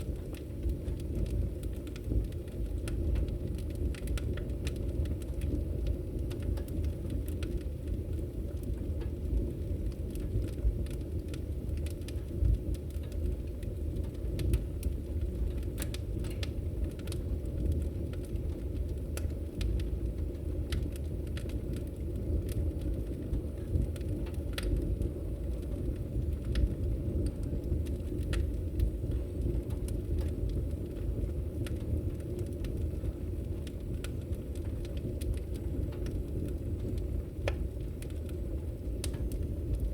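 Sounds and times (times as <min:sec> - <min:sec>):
fire rumbling: 0:00.0 - 0:39.9
wood crackling and popping: 0:00.0 - 0:39.9.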